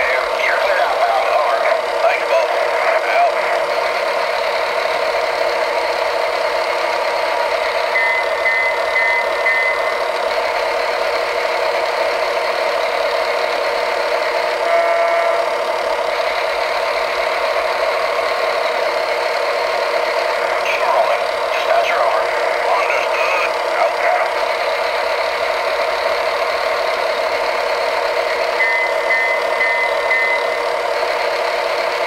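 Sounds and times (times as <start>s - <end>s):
toy diesel engine rumble: 0.0s - 32.0s.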